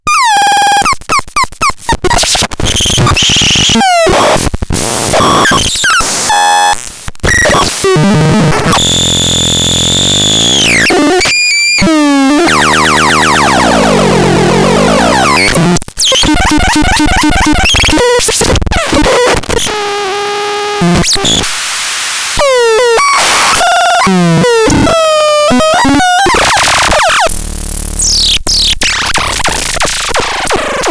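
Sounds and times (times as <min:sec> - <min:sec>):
harsh glitchy synthesizer tones: 0:02.0 - 0:30.9.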